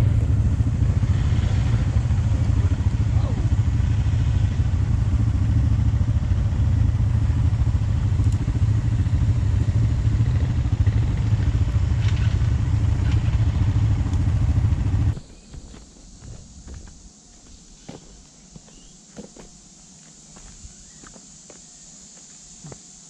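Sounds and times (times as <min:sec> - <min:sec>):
atv engine running: 0:00.0 - 0:19.6.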